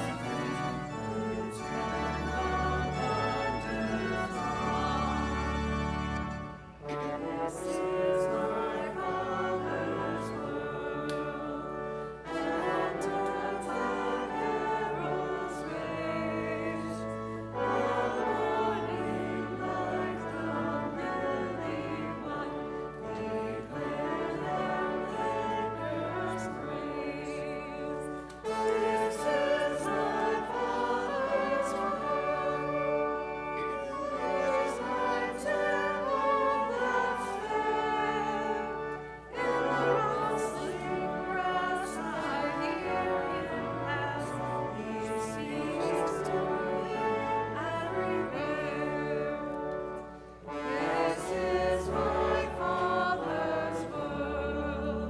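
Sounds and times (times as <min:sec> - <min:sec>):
choir singing a hymn: 0:00.0 - 0:55.0
instrumental accompaniment: 0:00.0 - 0:55.0.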